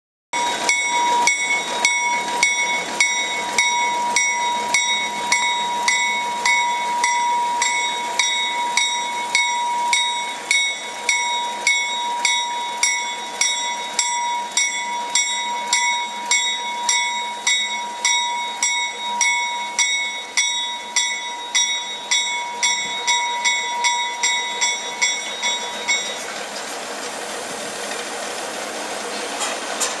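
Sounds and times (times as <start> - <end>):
locomotive bell ringing: 0.4 - 27.2
locomotive engine running: 0.4 - 30.0.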